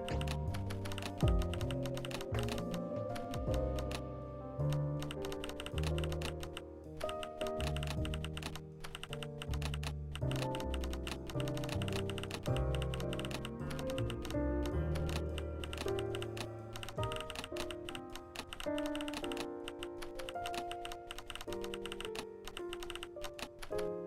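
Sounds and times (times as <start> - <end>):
rapid irregular clicks: 0.0 - 4.1, 4.7 - 24.0.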